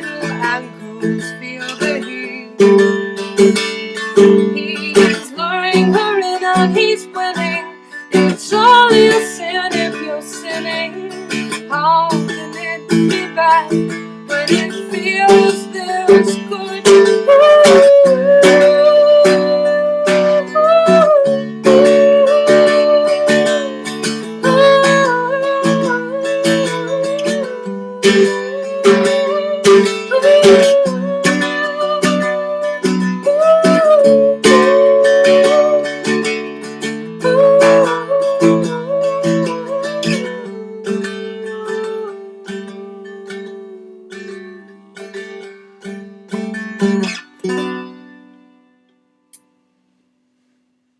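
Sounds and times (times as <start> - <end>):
strummed four-string instrument: 0.0 - 50.3.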